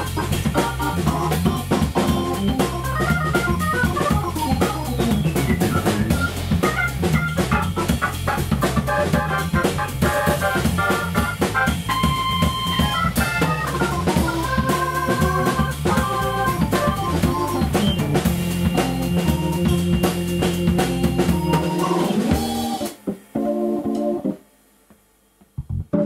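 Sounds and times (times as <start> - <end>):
low bass line: 0.0 - 22.4, 25.6 - 26.0
drum kit and cymbals: 0.0 - 24.3
organ soloing funk-jazz runs: 0.0 - 24.4, 25.6 - 26.0.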